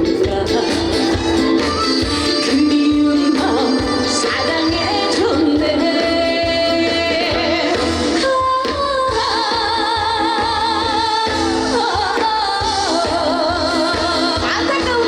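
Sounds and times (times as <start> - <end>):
instrumental accompaniment: 0.0 - 15.0
woman singing with vibrato: 0.0 - 15.0.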